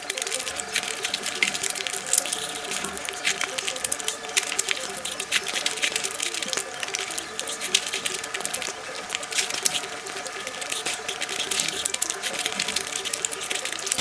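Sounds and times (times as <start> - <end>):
chewing and mouth sounds: 0.0 - 14.0
fingers mixing rice: 0.0 - 14.0.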